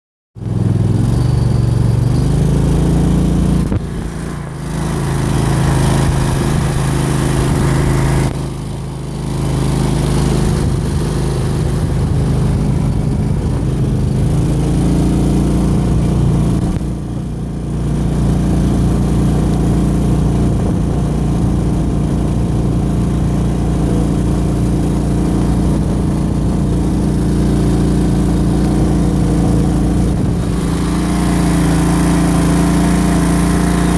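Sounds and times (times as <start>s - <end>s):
mud motor running: 0.4s - 33.9s.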